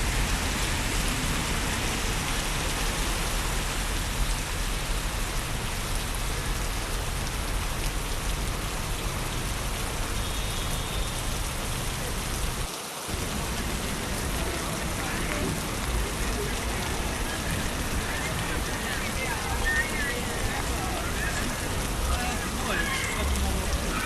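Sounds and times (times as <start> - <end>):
rain on wet pavement: 0.0 - 24.0.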